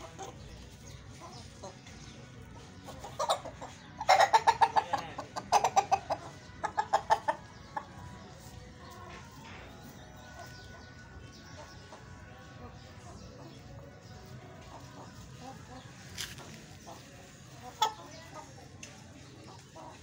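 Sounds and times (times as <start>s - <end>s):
chickens clucking rapidly: 0.0s - 20.0s.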